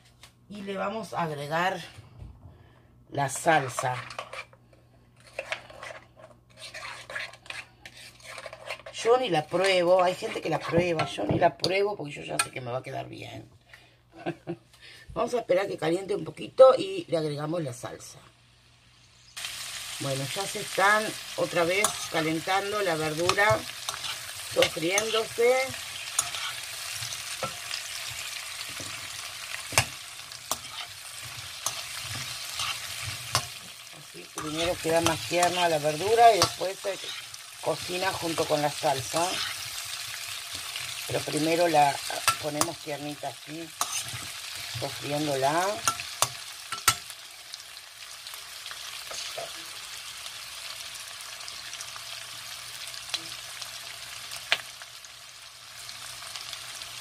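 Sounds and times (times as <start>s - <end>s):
food sizzling in frying pan: 3.2s - 4.6s, 5.2s - 11.5s, 18.3s - 57.0s.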